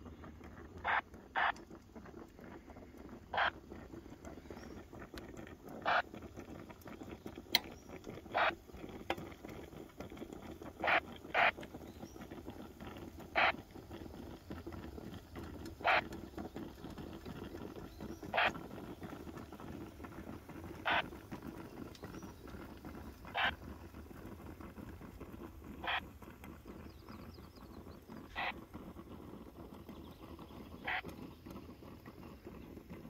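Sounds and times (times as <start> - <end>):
coffee percolator gurgling: 0.0 - 33.0.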